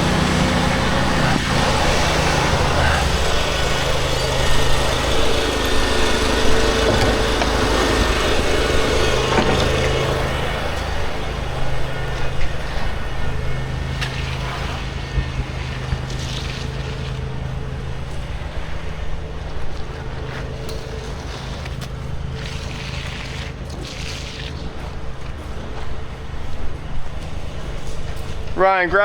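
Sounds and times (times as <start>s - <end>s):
higher hum: 0.0s - 23.2s
engine running steadily: 0.0s - 29.0s.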